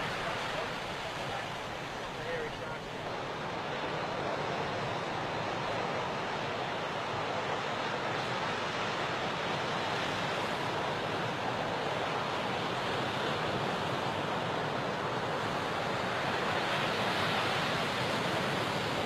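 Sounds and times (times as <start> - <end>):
sea surf washing onto shore: 0.0 - 19.0.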